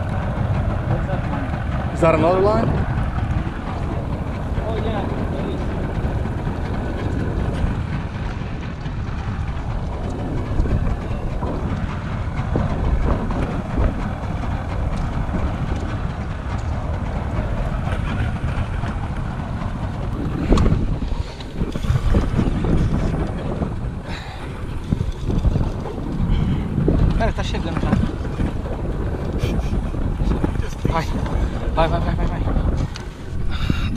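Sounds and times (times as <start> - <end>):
wind and water rumbling: 0.0 - 33.9.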